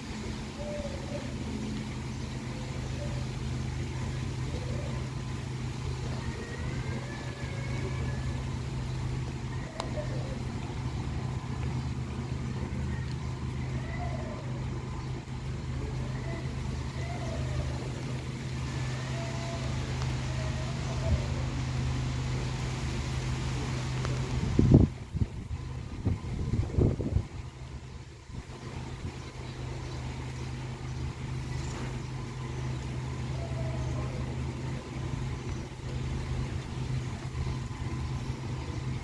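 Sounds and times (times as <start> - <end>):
engine humming: 0.0 - 39.0
wind through trees: 0.0 - 39.0.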